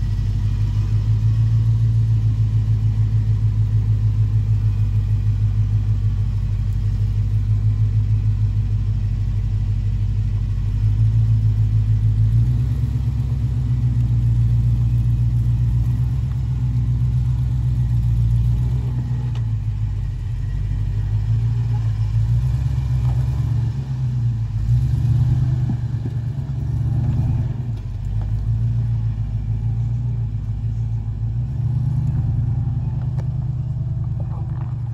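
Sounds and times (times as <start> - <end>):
engine rumbling under load: 0.0 - 34.9.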